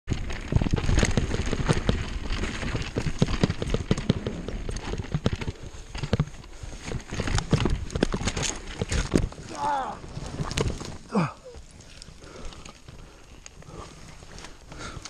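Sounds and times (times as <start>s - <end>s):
bike rattling and knocking: 0.1s - 15.0s
bike tyres rolling over dirt: 0.1s - 15.0s.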